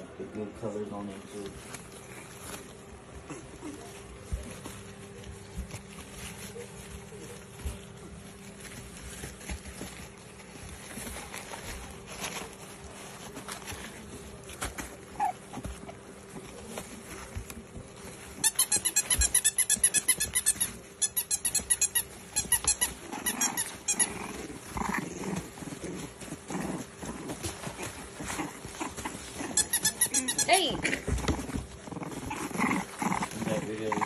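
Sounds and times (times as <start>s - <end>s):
puppies scuffling on a pad: 0.3s - 34.0s.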